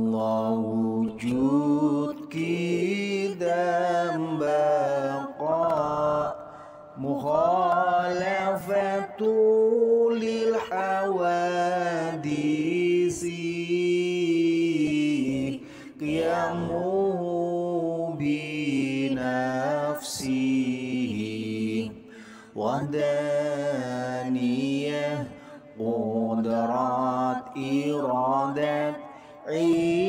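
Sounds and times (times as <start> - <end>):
person chanting melodically: 0.0 - 22.0, 22.6 - 30.0.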